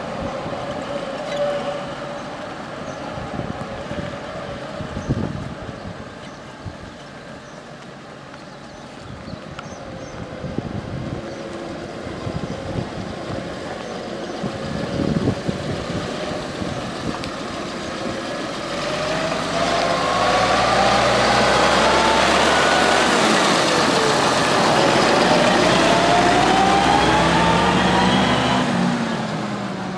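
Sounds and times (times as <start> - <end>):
tractor diesel engine passing: 0.0 - 6.2, 9.8 - 29.9.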